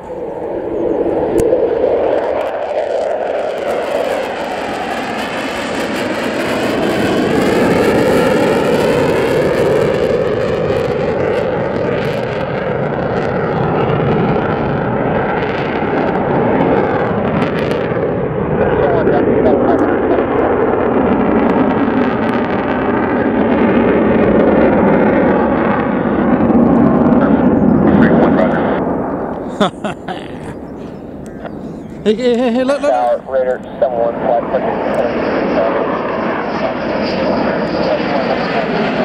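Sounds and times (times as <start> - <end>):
jet fighter flying past: 0.0 - 29.5, 30.5 - 39.0.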